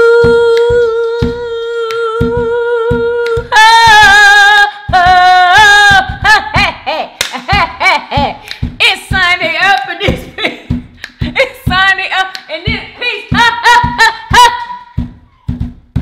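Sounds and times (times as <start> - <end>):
woman singing: 0.0 - 15.7
low thumping beat: 0.0 - 16.0.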